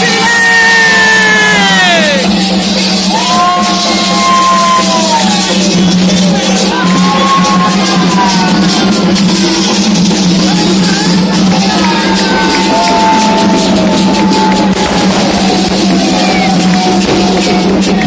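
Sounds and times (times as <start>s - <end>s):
drums and shaken percussion: 0.0s - 18.0s
voices singing a chant: 0.0s - 18.0s.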